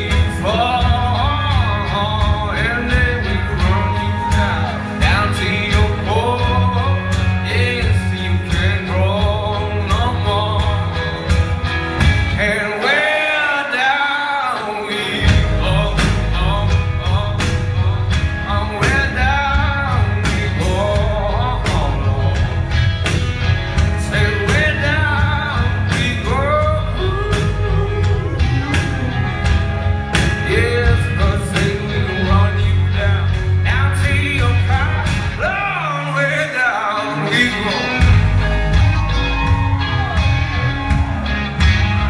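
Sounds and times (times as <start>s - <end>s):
man singing: 0.0s - 23.0s, 23.6s - 41.2s
live rock band playing: 0.0s - 42.0s.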